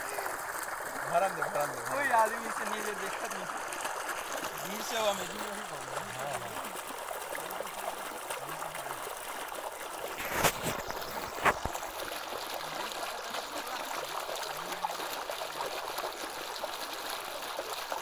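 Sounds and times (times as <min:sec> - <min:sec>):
water bubbling and gurgling: 0:00.0 - 0:18.0.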